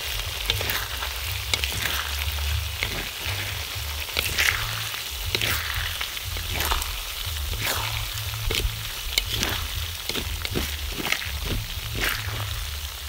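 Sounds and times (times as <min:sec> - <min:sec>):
meat sizzling in oil: 0:00.0 - 0:13.0
metal spatula scraping wok: 0:00.0 - 0:13.0.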